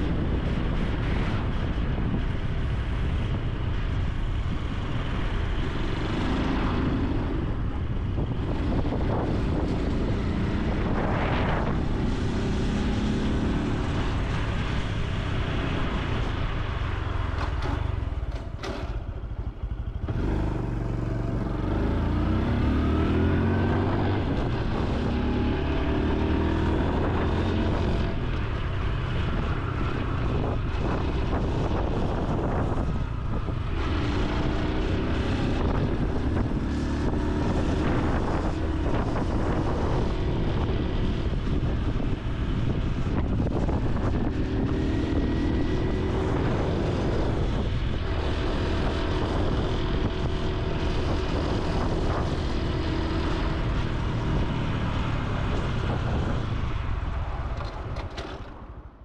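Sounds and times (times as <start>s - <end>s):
motorcycle engine and exhaust: 0.0s - 59.0s
wind rumble on microphone: 0.0s - 59.0s.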